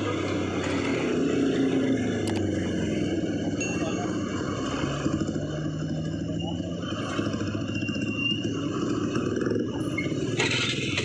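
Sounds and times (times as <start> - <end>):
heavy traffic rumble: 0.0 - 11.0.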